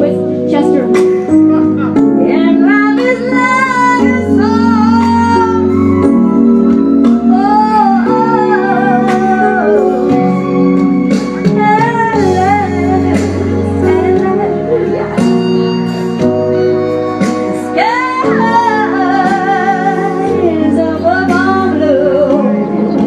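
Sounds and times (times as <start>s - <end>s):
instrumental backing music: 0.0s - 23.0s
woman singing into a microphone: 2.2s - 15.8s, 16.6s - 23.0s.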